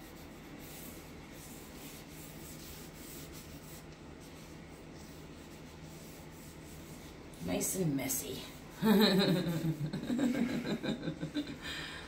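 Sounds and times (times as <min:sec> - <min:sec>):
soft rubbing on canvas: 0:00.0 - 0:11.0
low steady hum: 0:00.0 - 0:12.0.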